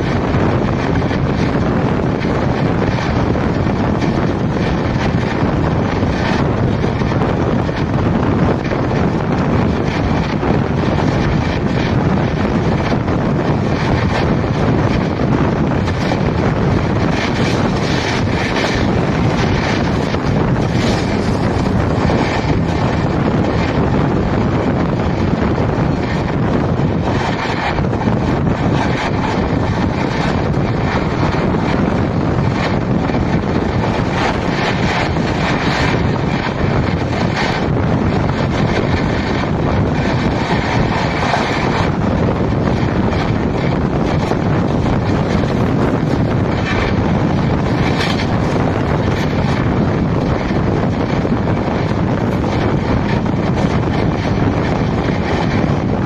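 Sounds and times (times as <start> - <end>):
train wheels rumbling on rails: 0.0 - 56.0
wind rushing on microphone: 0.0 - 56.0.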